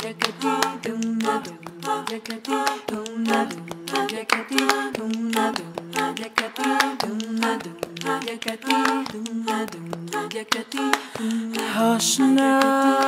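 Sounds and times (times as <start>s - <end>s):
hand claps: 0.0s - 13.0s
women singing a cappella harmonies: 0.0s - 13.0s.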